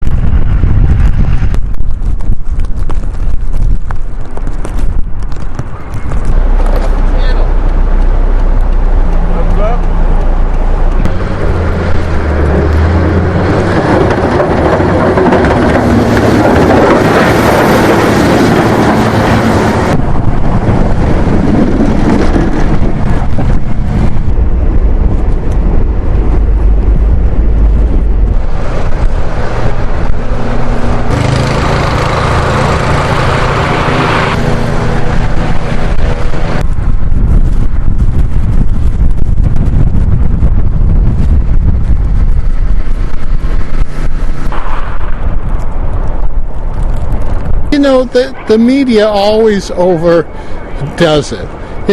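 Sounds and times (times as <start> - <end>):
motor vehicles running: 0.0 - 51.9
wind on microphone: 0.0 - 51.9.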